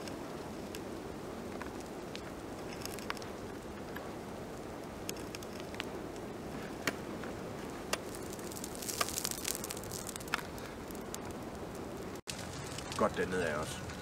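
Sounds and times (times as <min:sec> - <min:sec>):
burning straw crackling and popping: 0:00.0 - 0:14.0
flames roaring: 0:00.0 - 0:14.0.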